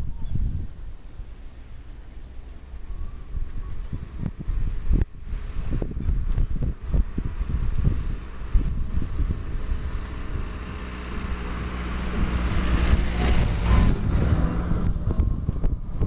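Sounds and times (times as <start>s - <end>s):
motor vehicle rumble: 0.0s - 16.0s.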